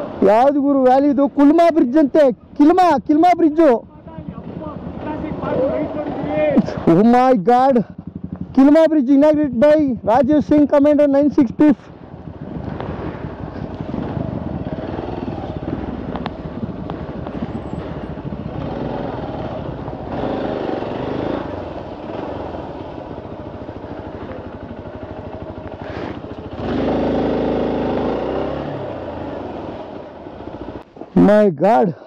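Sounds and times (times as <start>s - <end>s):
motorcycle engine running: 0.0s - 31.3s.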